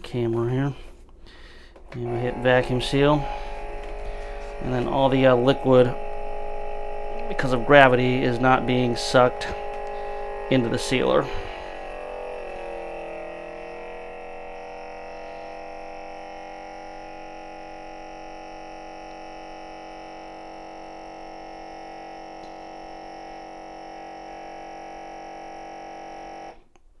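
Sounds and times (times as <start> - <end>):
vacuum sealer pump humming: 0.0 - 26.7.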